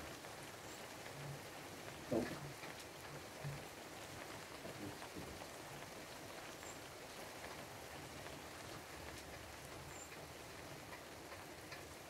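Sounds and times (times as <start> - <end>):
raindrops ticking close by: 0.0 - 12.0
steady rain hiss: 0.0 - 12.0.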